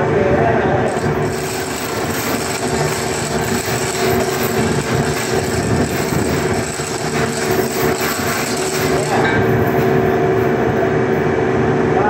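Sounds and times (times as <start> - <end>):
machinery droning: 0.4 - 12.0.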